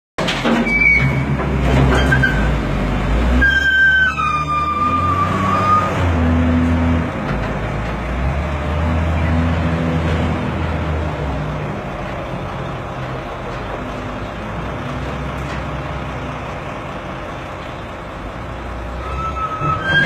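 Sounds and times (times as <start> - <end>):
diesel machinery rumbling: 0.2 - 20.0.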